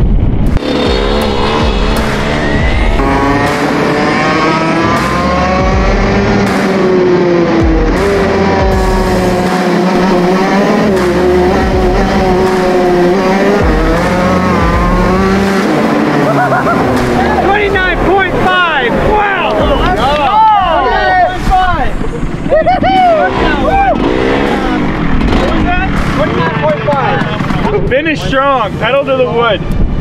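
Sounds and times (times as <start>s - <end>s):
kart engine revving: 0.5s - 29.1s.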